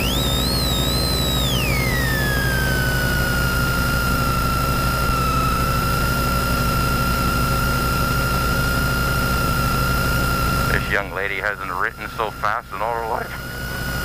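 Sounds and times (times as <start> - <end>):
car engine idling with whine: 0.0 - 14.0.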